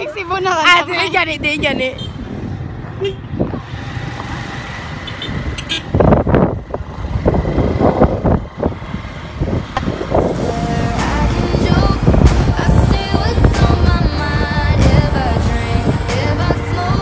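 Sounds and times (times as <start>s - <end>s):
wind buffeting microphone: 0.0s - 4.1s, 4.8s - 17.0s
motorcycle engine and road rumble: 0.0s - 17.0s.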